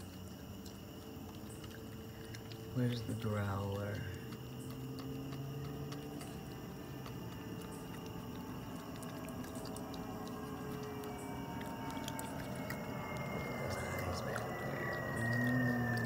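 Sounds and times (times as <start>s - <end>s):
low hum: 0.0s - 16.0s
raccoons chewing wetly: 0.0s - 16.0s.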